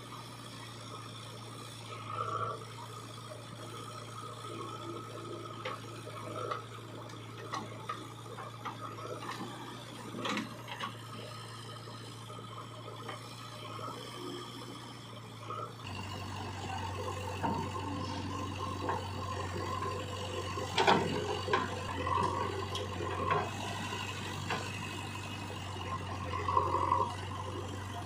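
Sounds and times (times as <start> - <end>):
machine drone: 0.0 - 28.0.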